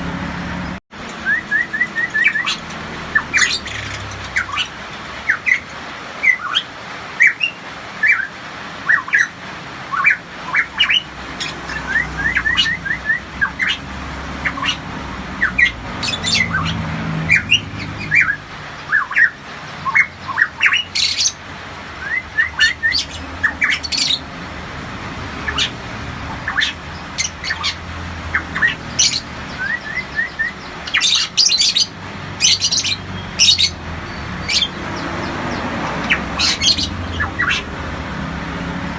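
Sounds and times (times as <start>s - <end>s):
bird whistled song: 1.1s - 9.3s, 9.9s - 13.8s, 14.4s - 14.8s, 15.4s - 21.4s, 22.0s - 24.2s, 26.3s - 37.7s
bird harsh rasping squawks: 1.2s - 24.3s, 25.4s - 37.8s.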